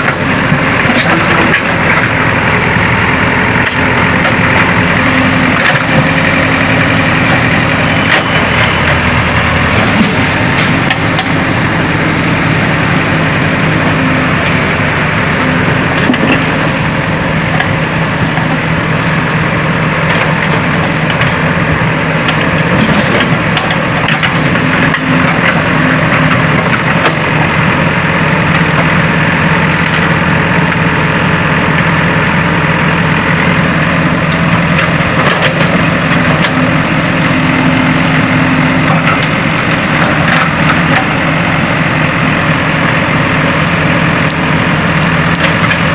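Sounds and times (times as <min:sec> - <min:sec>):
heavy diesel engine running: 0:00.0 - 0:45.9
machinery knocks and clanks: 0:00.0 - 0:45.9.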